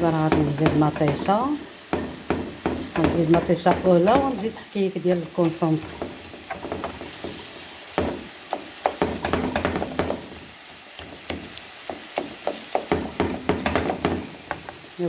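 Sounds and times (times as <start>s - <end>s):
spatula scraping frying pan: 0.0s - 14.9s
light frying sizzle: 0.0s - 15.0s.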